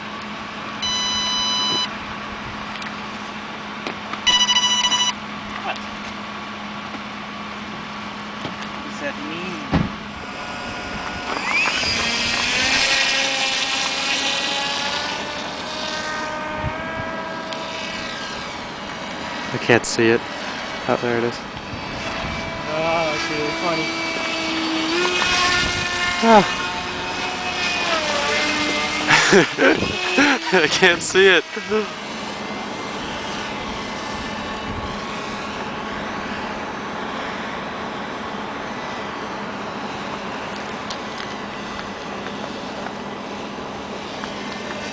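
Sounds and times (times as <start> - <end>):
electric motor and propeller whine: 0.0 - 44.9.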